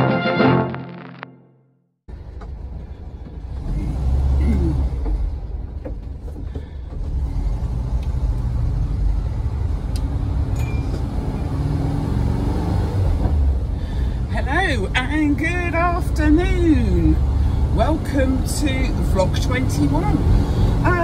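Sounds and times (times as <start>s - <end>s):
vehicle engine and road noise: 2.1s - 21.0s.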